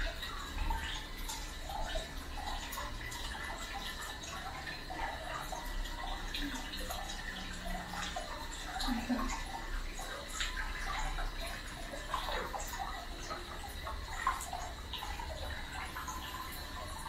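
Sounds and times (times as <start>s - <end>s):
bath water lapping and splashing: 0.0s - 17.0s
water drips and trickles: 0.0s - 17.0s.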